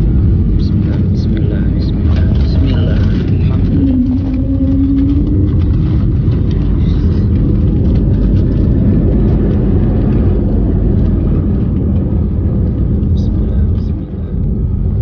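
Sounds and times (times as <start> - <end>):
airliner engines rumbling: 0.0 - 15.0
wheels rolling on pavement: 0.0 - 15.0.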